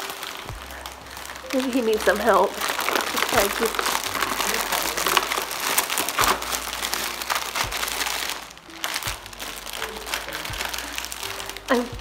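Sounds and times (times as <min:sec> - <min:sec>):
gift wrap crinkling: 0:00.0 - 0:12.0.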